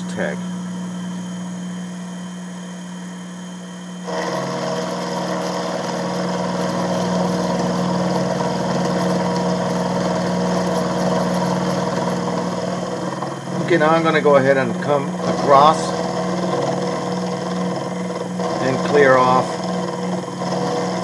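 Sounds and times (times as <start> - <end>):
mill motor humming: 0.0 - 21.0
end mill cutting aluminium: 4.1 - 21.0.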